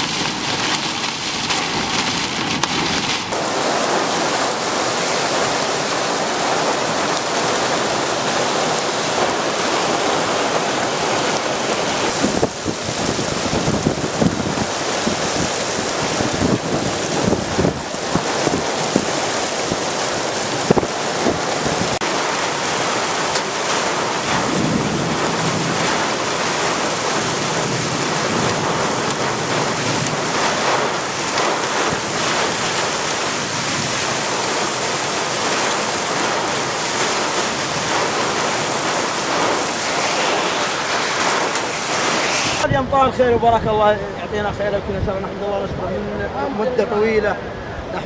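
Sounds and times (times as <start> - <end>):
flood water rushing: 0.0 - 42.7.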